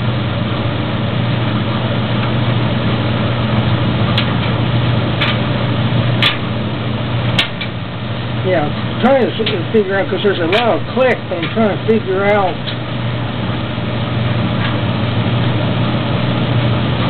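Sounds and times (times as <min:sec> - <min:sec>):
dryer motor and drum hum: 0:00.0 - 0:17.0.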